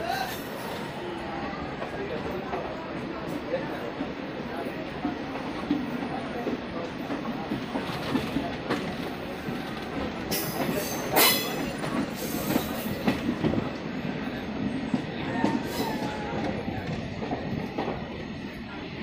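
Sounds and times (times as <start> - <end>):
train wheels clattering on track: 1.7 - 19.0.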